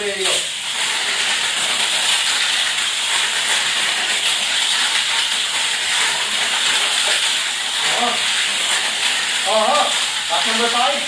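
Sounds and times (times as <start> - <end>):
toy car motors whirring: 0.0 - 11.0.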